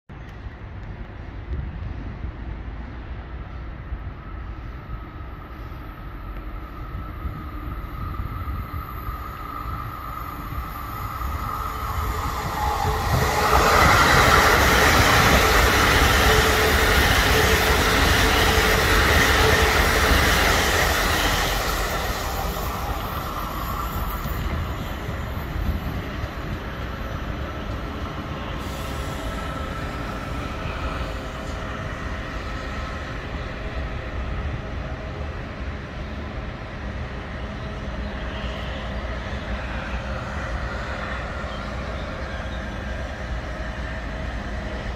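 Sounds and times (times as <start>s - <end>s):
high-speed trains passing: 0.1s - 44.9s.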